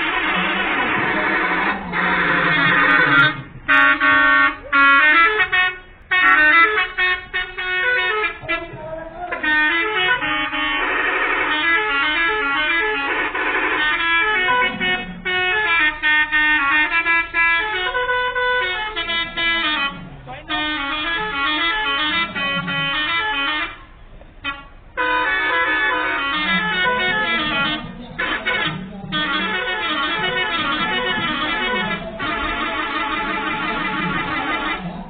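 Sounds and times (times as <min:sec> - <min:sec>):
bus horn playing a tune: 0:00.0 - 0:35.0.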